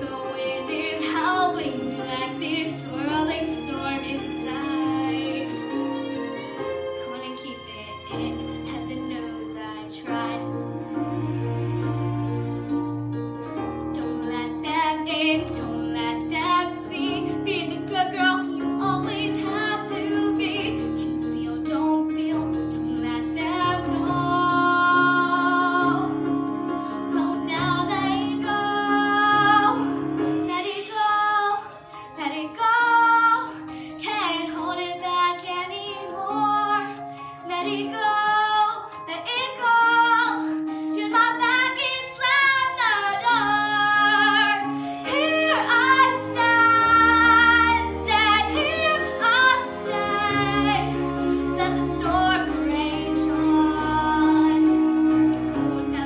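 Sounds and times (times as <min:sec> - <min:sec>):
girl singing into microphone: 0:00.0 - 0:05.6, 0:07.1 - 0:10.6, 0:13.9 - 0:56.0
instrumental accompaniment: 0:00.0 - 0:56.0.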